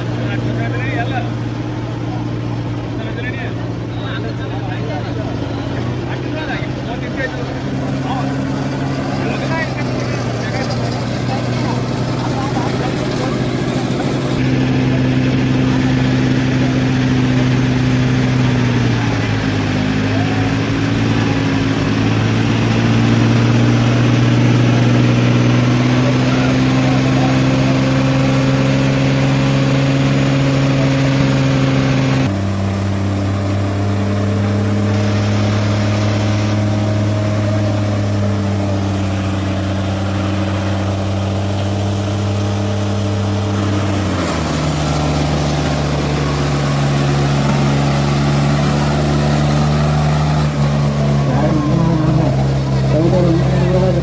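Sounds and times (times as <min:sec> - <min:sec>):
diesel tractor engines at high revs: 0:00.0 - 0:54.0.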